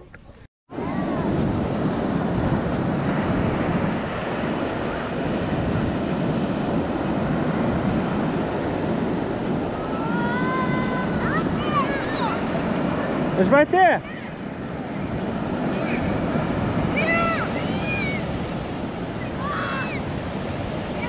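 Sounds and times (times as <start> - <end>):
ocean surf breaking: 0.7 - 21.0
wind on microphone: 0.7 - 21.0.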